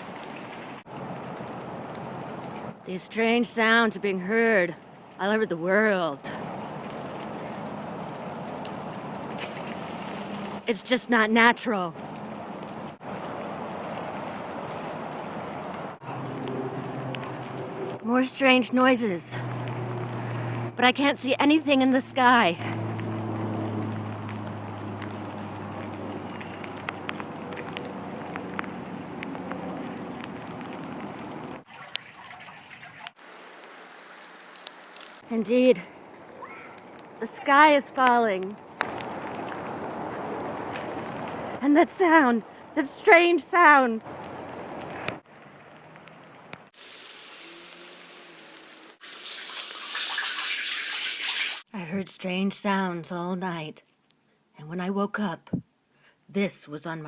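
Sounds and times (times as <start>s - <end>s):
rain and dripping water: 0.0s - 51.7s.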